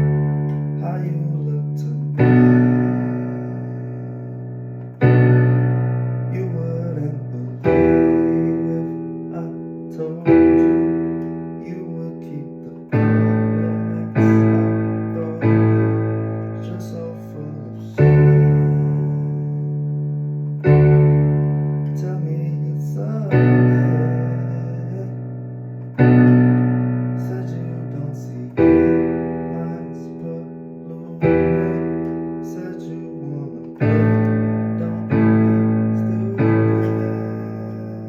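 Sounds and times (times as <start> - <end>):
keyboard playing sustained chords: 0.0 - 38.0.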